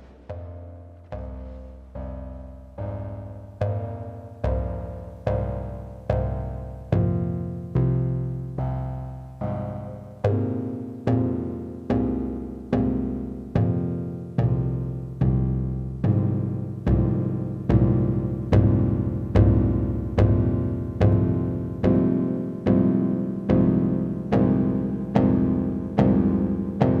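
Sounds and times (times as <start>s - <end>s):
synthesizer plucked low notes: 0.0s - 27.0s.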